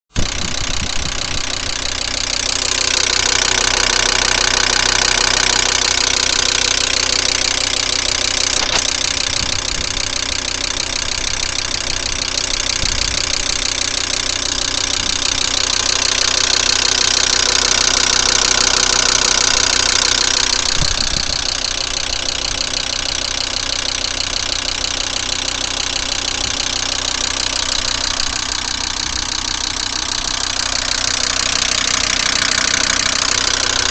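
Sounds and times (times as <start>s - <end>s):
diesel engine idling with knock: 0.1s - 33.9s.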